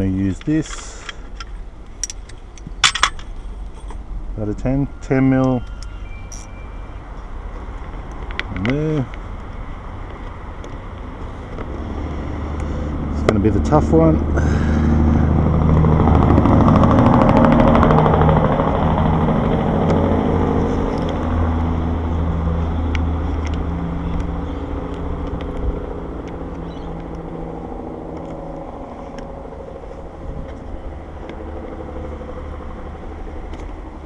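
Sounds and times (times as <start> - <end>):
vehicle engine droning: 0.0 - 34.0.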